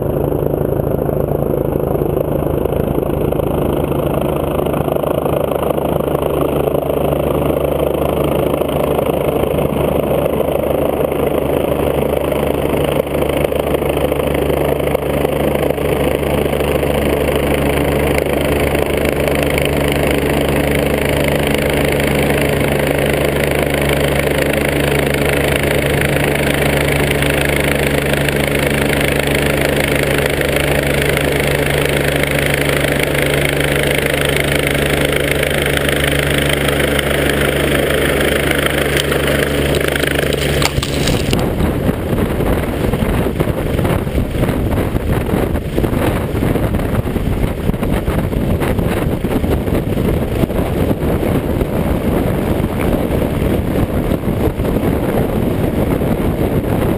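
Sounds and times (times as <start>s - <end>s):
helicopter rotor and engine hum: 0.0s - 56.9s
rotor downwash wind rush: 0.0s - 56.9s.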